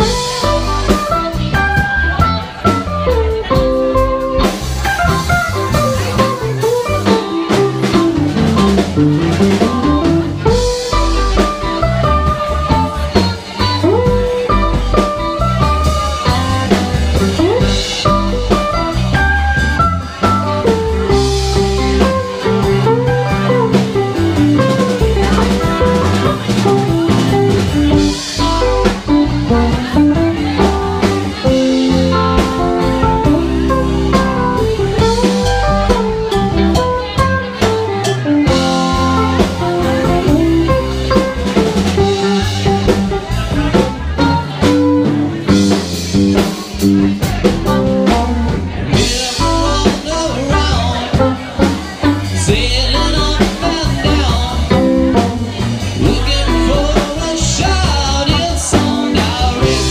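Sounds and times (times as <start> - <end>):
gliding lead guitar line: 0.0 - 59.9
live band playing: 0.0 - 59.9.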